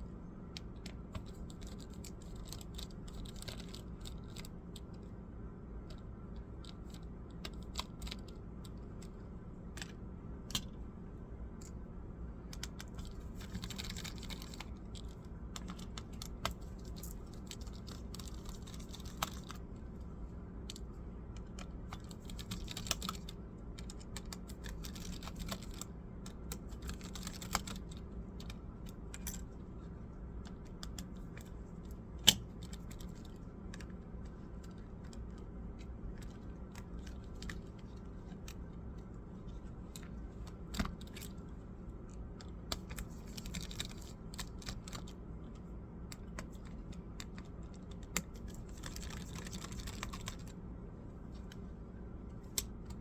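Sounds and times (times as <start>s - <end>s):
steady low hum: 0.0s - 53.0s
hands clicking on laptop parts: 0.4s - 5.1s, 5.8s - 10.8s, 12.5s - 19.7s, 20.6s - 50.6s, 52.4s - 53.0s.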